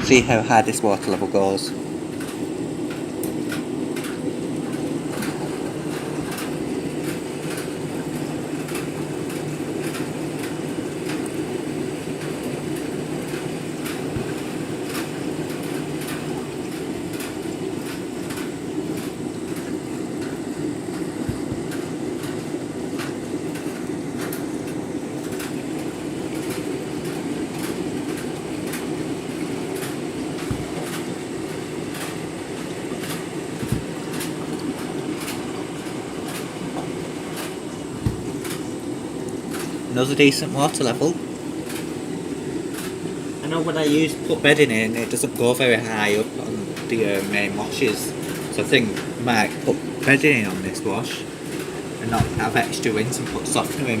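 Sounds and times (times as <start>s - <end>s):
washing machine drum rumbling: 0.0s - 54.0s
water filling: 0.0s - 54.0s.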